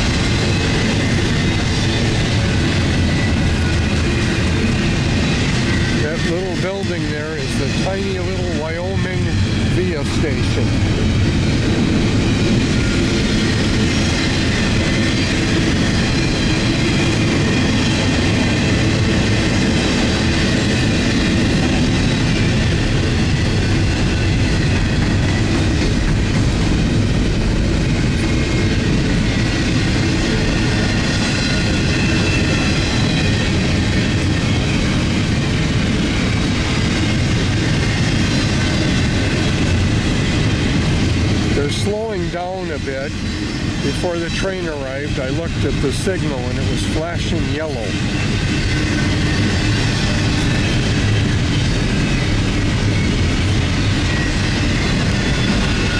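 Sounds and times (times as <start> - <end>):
freight train wheels rumbling on rails: 0.0 - 55.9.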